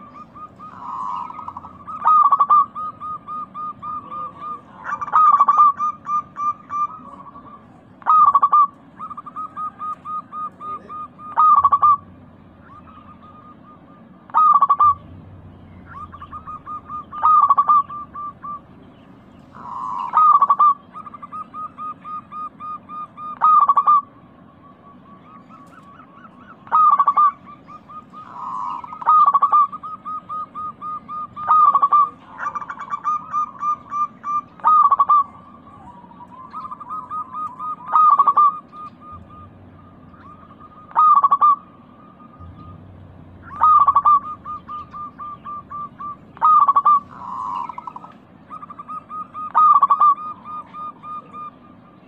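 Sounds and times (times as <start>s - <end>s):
dove cooing: 0.0s - 52.0s.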